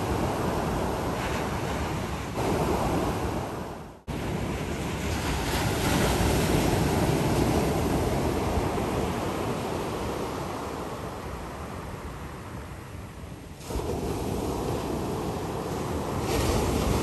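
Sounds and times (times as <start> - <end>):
surf breaking on beach: 0.0 - 11.1, 13.6 - 17.0
wind buffeting microphone: 0.0 - 17.0.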